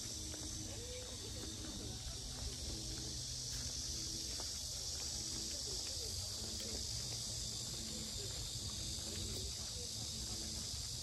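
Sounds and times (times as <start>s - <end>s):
cicadas chorus buzzing: 0.0s - 11.0s.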